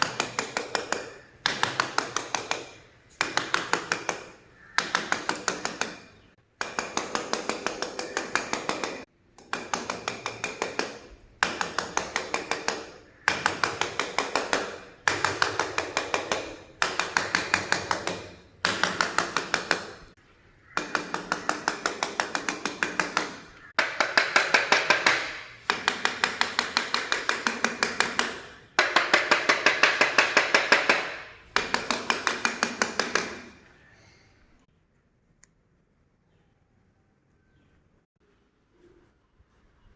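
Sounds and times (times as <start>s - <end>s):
tapping on stone slabs: 0.0s - 33.5s.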